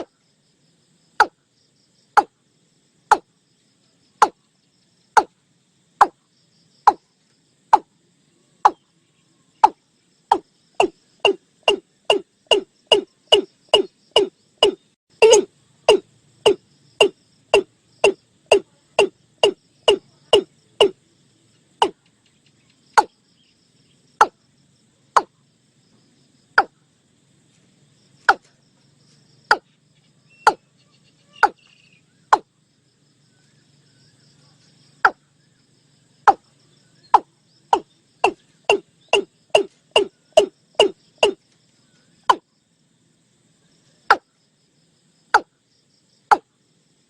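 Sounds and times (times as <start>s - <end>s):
faint insect buzz: 0.0s - 47.0s.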